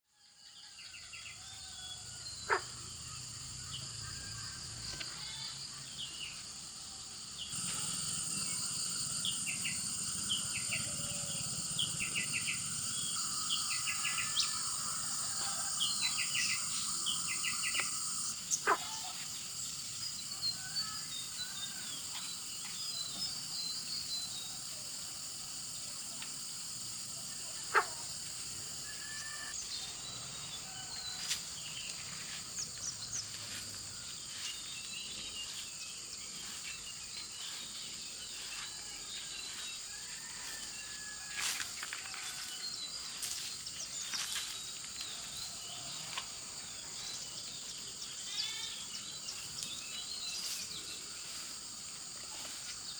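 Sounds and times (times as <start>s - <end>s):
high insect drone: 0.8s - 52.9s.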